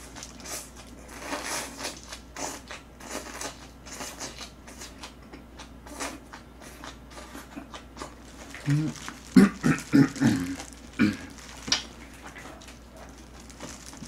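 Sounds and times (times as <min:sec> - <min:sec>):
chewing and mouth smacking: 0:00.0 - 0:14.0.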